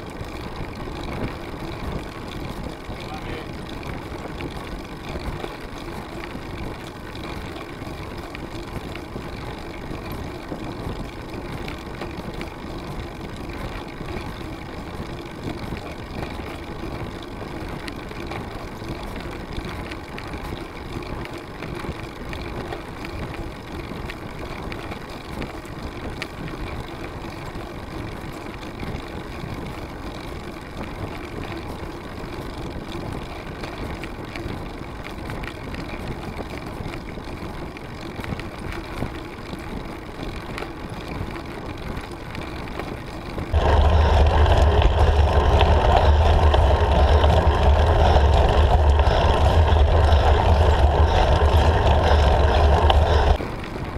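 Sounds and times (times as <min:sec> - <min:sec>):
bicycle rolling on asphalt: 0:00.0 - 0:53.9.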